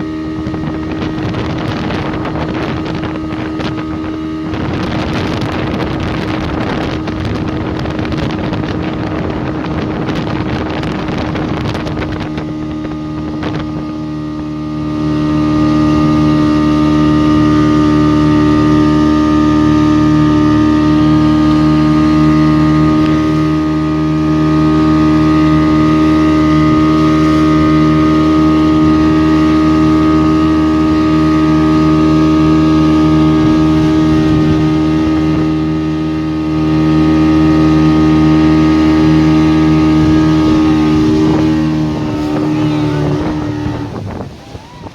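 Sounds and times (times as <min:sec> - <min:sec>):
motorboat engine running: 0:00.0 - 0:44.9
wind buffeting microphone: 0:00.0 - 0:44.9.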